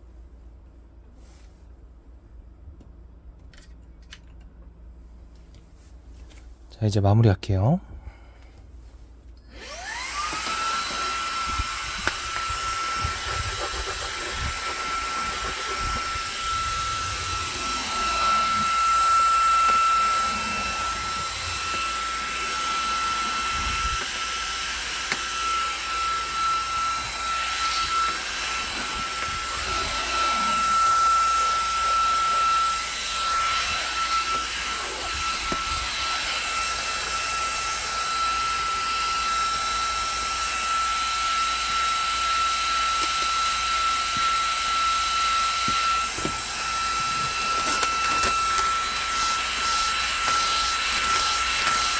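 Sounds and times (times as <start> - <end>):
vacuum cleaner motor whine: 9.5 - 51.9.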